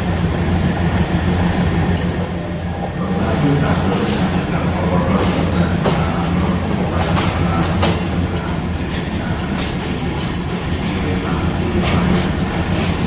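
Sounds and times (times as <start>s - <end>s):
train rumbling: 0.0s - 13.0s
wheels clacking over rail joints: 1.9s - 13.0s.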